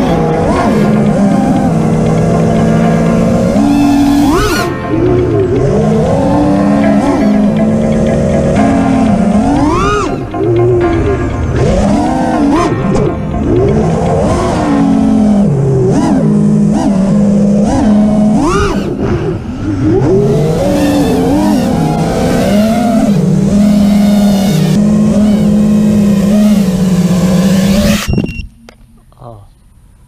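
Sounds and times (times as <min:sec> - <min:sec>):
drone motors whining: 0:00.0 - 0:29.2.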